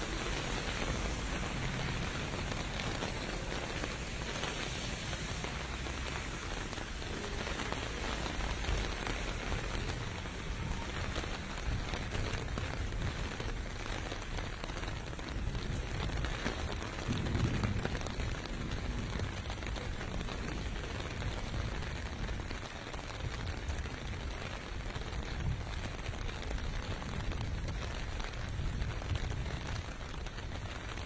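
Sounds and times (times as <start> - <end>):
rain falling on pavement: 0.0 - 31.0.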